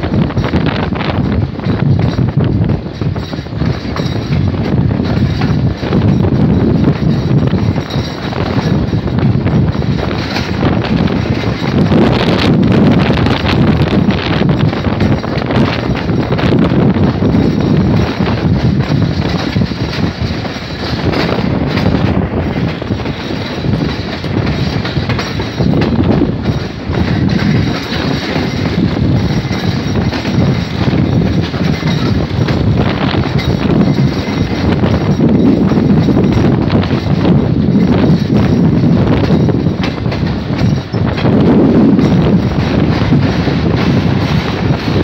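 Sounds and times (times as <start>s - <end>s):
train wheels rumbling on rail: 0.0s - 45.0s
wheels clattering over rail joints: 0.0s - 45.0s.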